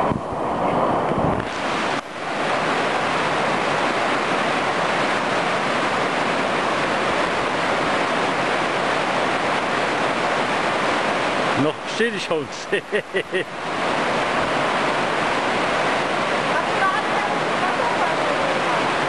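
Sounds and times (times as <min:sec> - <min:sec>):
river cascade rushing: 0:00.0 - 0:19.0.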